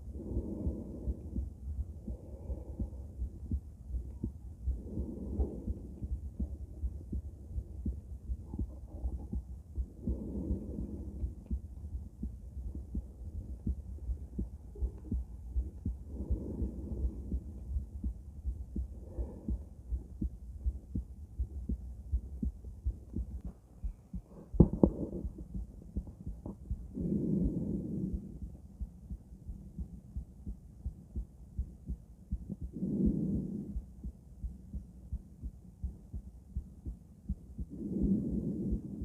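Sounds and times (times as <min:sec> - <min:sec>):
heartbeat through stethoscope: 0:00.0 - 0:39.0.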